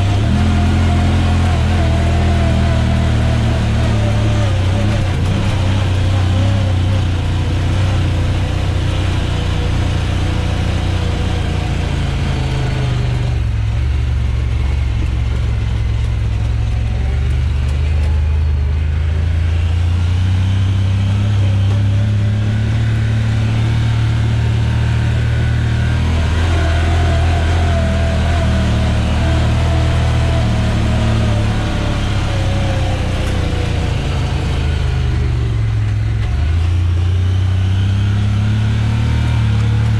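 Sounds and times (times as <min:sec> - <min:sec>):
high-pitched whine: 0:00.0 - 0:39.9
utility vehicle engine running: 0:00.0 - 0:39.9.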